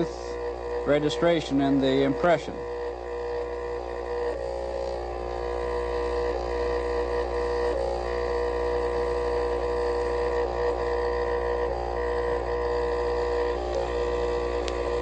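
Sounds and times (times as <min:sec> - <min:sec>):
vibrator droning hum: 0:00.0 - 0:15.0.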